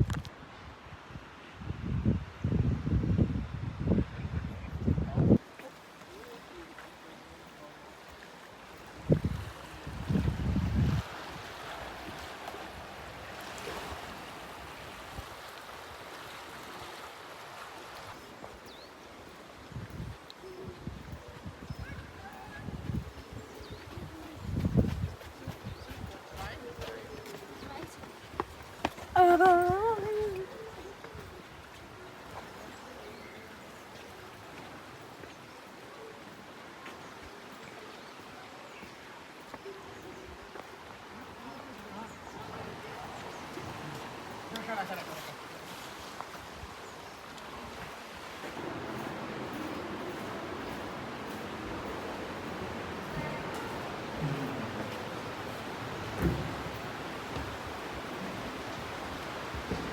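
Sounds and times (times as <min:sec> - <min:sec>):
fast river water rushing: 0:05.4 - 0:59.9.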